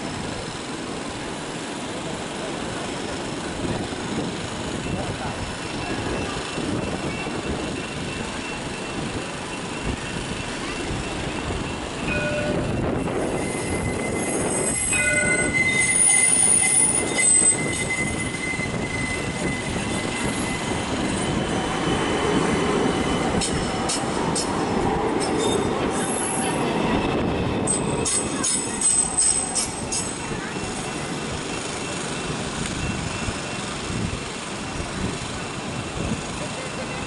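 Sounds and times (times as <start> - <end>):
tram running noise: 0.0 - 37.0
tram wheels squealing: 0.0 - 37.0.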